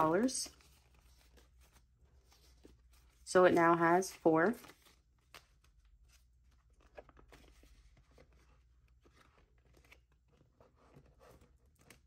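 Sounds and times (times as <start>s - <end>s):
paper banknotes rustling: 0.0s - 12.0s.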